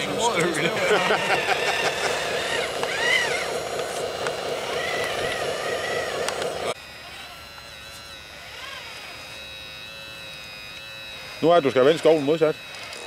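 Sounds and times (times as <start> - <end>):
electric motors whining: 0.0 - 13.0
steady mechanical noise: 0.0 - 13.0.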